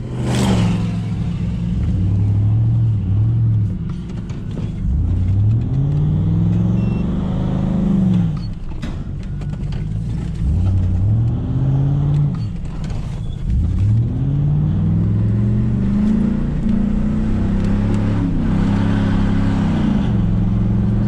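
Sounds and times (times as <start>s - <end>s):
truck engine accelerating: 0.0s - 21.0s.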